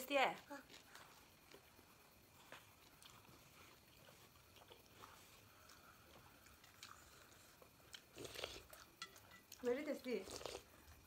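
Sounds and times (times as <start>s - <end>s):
people chewing: 0.4s - 11.0s.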